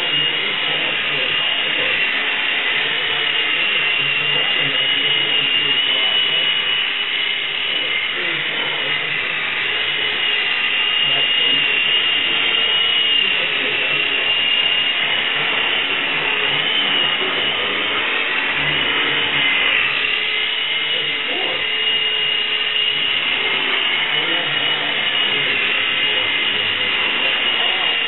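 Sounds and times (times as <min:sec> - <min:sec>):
toy helicopter motor whine: 0:00.0 - 0:28.0.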